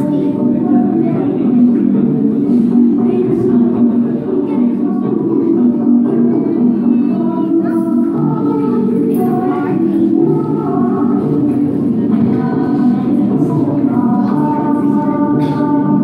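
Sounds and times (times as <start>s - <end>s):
music with sung melody: 0.0s - 16.0s.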